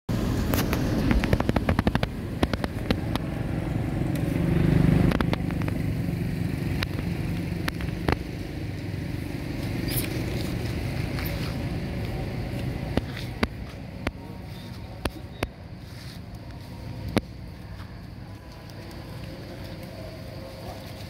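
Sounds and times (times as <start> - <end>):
low engine rumble: 0.1 - 21.0.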